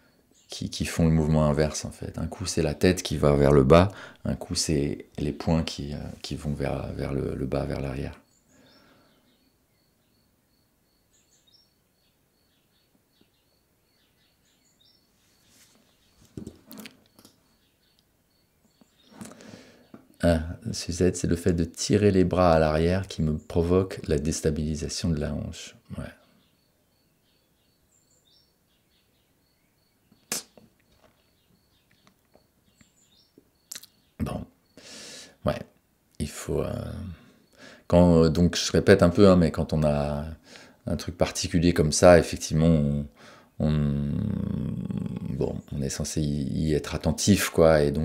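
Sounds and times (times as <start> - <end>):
faint birds chirping: 0.0 - 48.0.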